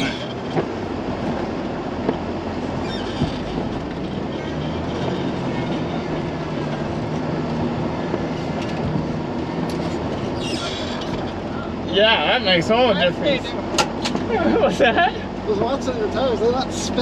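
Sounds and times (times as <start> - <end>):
tires rumbling in snow: 0.0 - 17.0
truck engine drone: 0.0 - 17.0.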